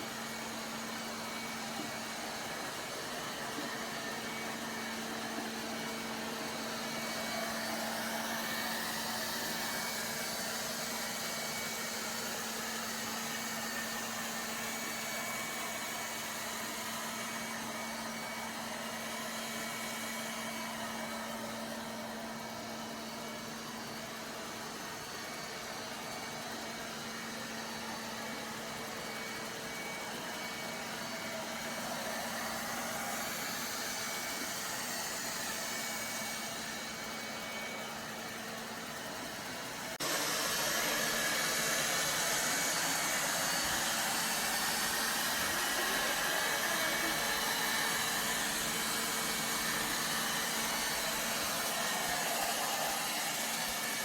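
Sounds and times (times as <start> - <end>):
robot vacuum whirring: 0.0 - 54.0.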